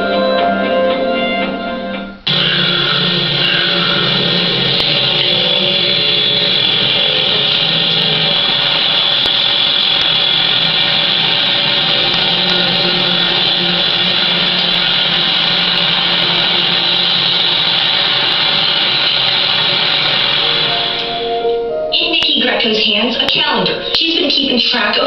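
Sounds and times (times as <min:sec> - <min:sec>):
music: 0:00.0 - 0:25.0
grinding drone with high whine: 0:02.2 - 0:24.8.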